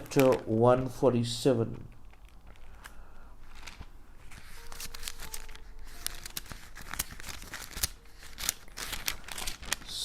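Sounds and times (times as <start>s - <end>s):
thin paper pages rustling: 0.0s - 10.0s.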